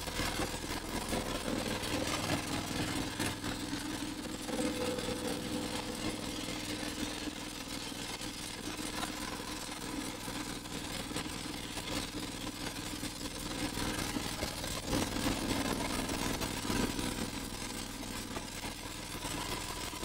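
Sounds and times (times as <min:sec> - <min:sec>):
motorboat engine droning: 0:00.0 - 0:20.0.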